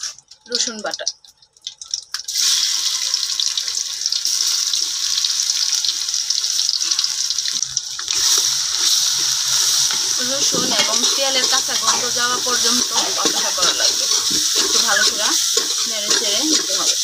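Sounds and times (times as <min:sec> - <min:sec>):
garlic paste sizzling in oil: 0:00.0 - 0:17.0.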